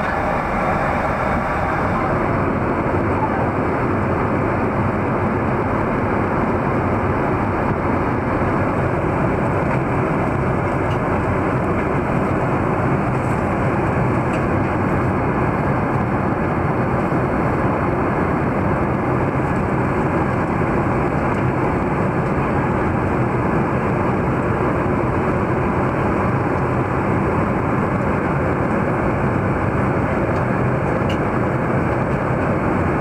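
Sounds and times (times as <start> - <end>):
airplane cabin airflow and engine: 0.0 - 33.0.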